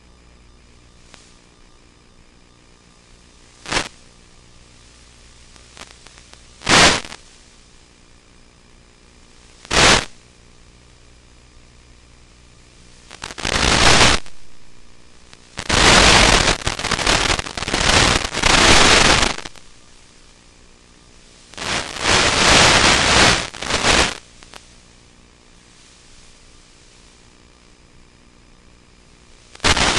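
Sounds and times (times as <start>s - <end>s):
faint steady hiss and hum: 0.0s - 29.9s
loud static hiss: 0.0s - 29.9s.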